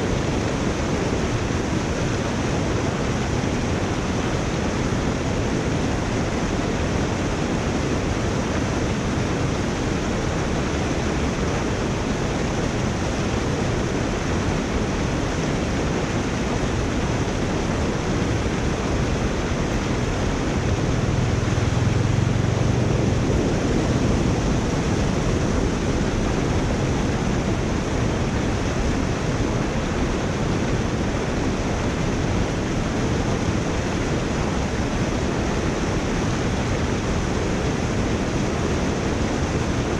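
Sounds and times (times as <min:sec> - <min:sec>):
water rushing through a culvert: 0:00.0 - 0:39.9.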